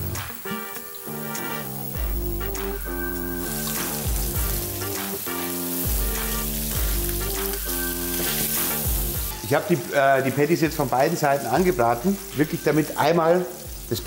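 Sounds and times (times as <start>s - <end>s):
background music with bass line: 0.0s - 14.0s
patties sizzling in a pan: 0.0s - 14.0s.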